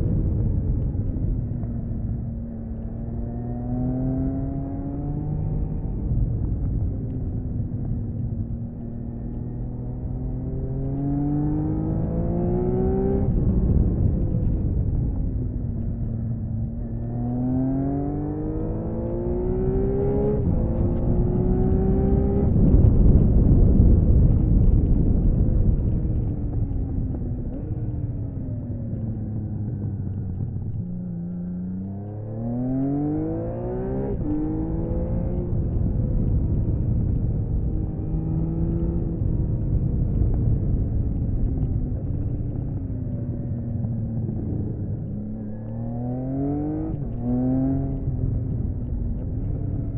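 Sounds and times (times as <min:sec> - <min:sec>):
motorcycle engine accelerating: 0:00.0 - 0:49.9
wind rushing over microphone: 0:00.0 - 0:49.9.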